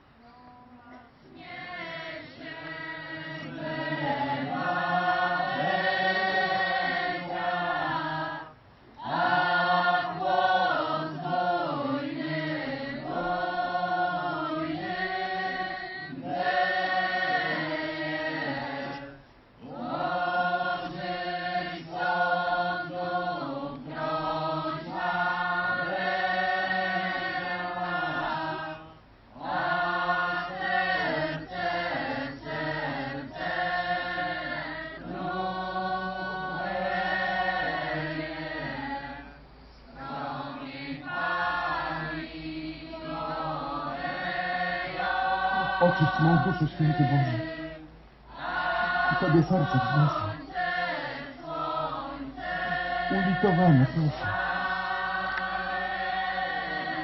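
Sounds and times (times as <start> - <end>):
chorus of voices chanting: 1.3 - 57.0.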